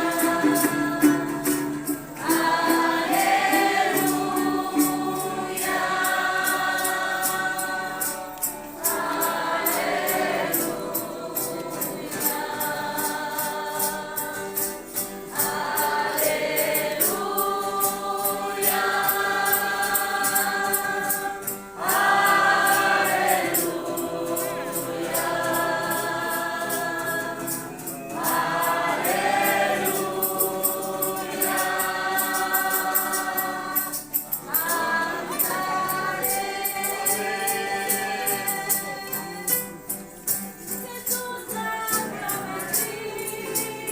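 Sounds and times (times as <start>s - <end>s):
high percussion beat: 0.0s - 41.3s
congregation singing a hymn: 0.0s - 43.9s.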